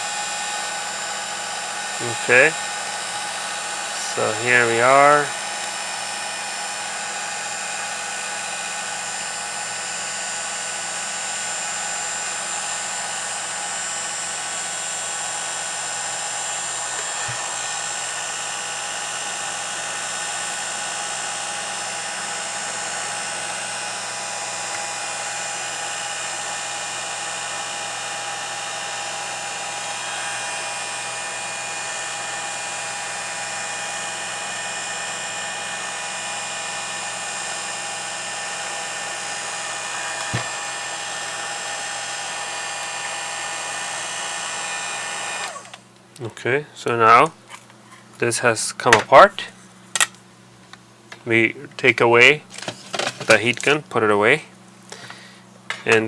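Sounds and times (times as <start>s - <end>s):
heat gun fan whine: 0.0s - 56.0s.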